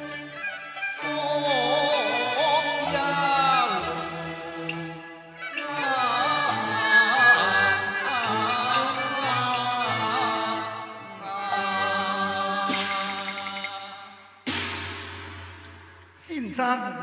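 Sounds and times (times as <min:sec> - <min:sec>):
opera music with sliding melody: 0:00.0 - 0:16.7.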